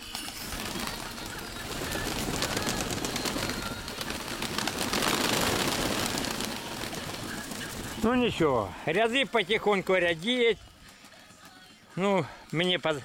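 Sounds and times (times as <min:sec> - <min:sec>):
pigeon wings fluttering: 0:00.0 - 0:11.8.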